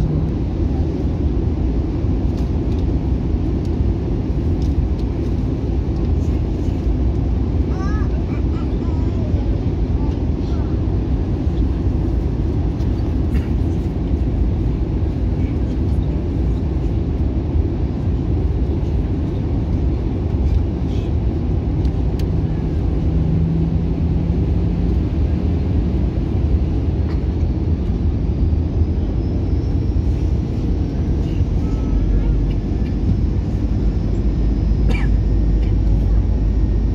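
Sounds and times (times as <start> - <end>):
low hum: 0.0 - 7.7, 9.6 - 36.9
airplane cabin rumble: 0.0 - 36.9.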